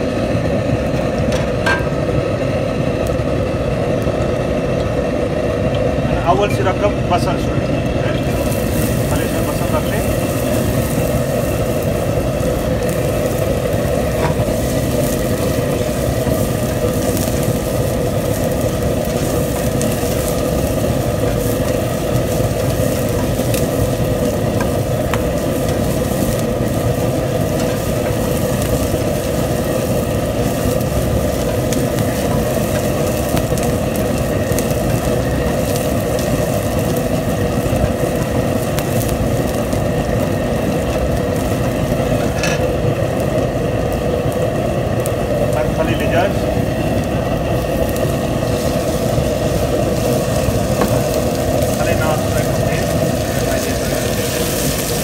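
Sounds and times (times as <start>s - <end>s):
kitchen equipment roar: 0.0s - 55.0s
onion sizzling in oil: 0.0s - 55.0s.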